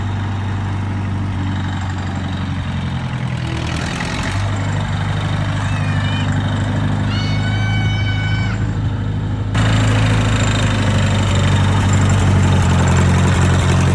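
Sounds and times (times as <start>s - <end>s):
tractor engine idling: 0.0s - 13.9s.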